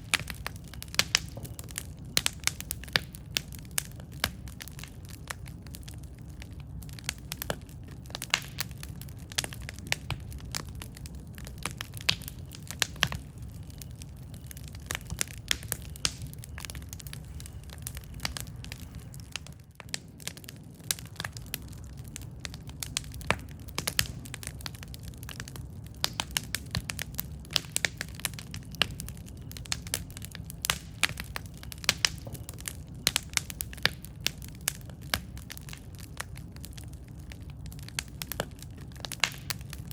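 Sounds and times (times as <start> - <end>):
burning wood crackling and popping: 0.0 - 39.9
campfire flames rumbling: 0.0 - 39.9.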